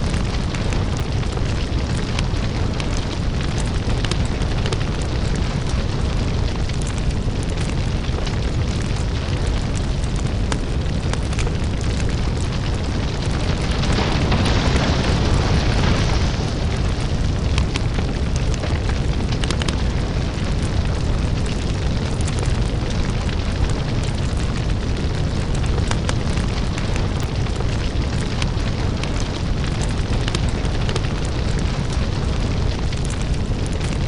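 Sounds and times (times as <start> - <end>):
deep steady rumble: 0.0 - 34.0
lava crackles and pops: 0.0 - 34.0.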